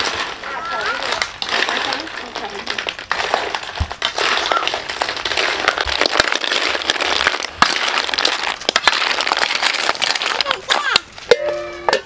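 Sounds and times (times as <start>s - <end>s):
shells clattering in wok: 0.0s - 12.0s.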